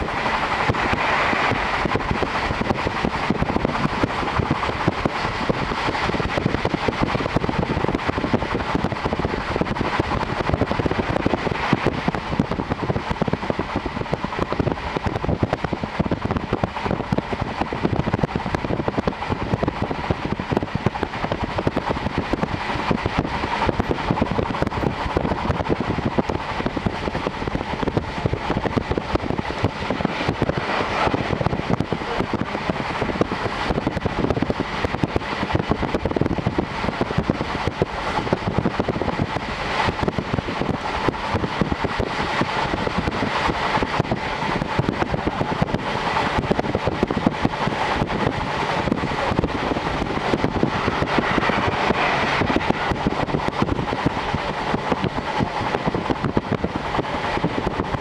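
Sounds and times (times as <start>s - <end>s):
rushing air: 0.0s - 58.0s
train wheels rumbling on rails: 0.0s - 58.0s.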